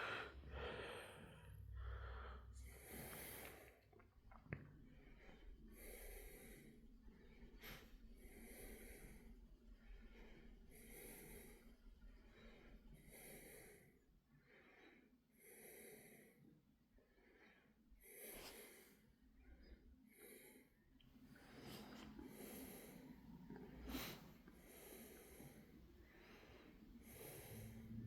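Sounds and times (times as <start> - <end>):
faint slow breathing: 0.0 - 28.0.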